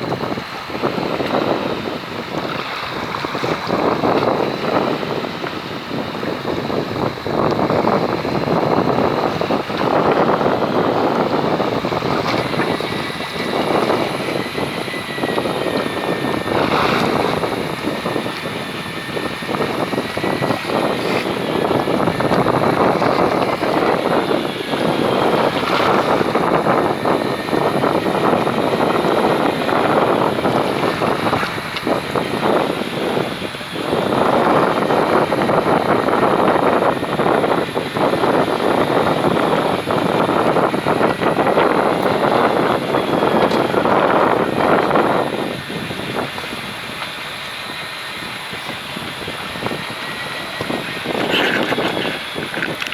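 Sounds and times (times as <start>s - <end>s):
boat engine running: 0.0s - 52.9s
gusting wind on microphone: 0.0s - 52.9s.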